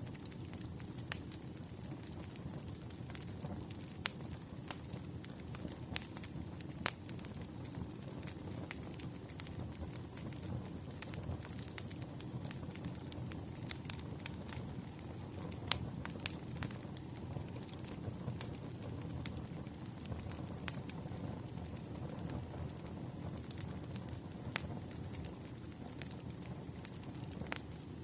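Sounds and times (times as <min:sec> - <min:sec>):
firewood crackling and popping: 0:00.0 - 0:28.0
low rumble of flames: 0:00.0 - 0:28.0.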